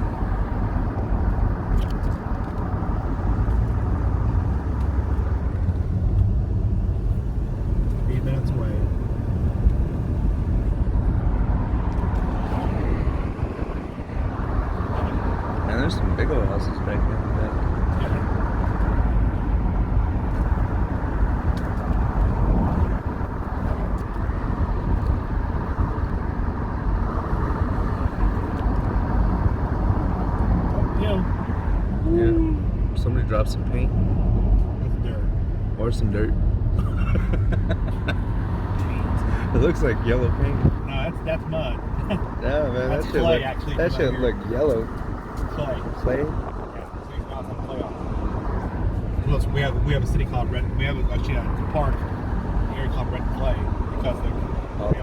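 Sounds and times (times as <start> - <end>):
road and engine rumble in vehicle: 0.0 - 55.0.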